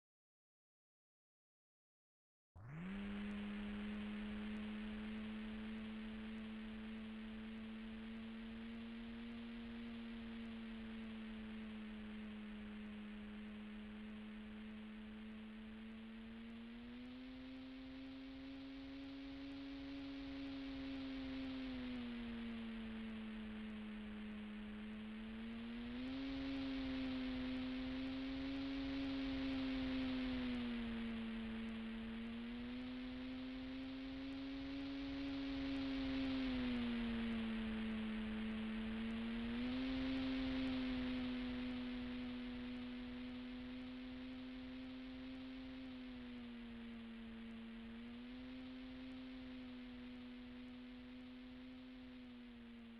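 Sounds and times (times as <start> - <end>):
model plane motor whining: 2.6 - 52.9.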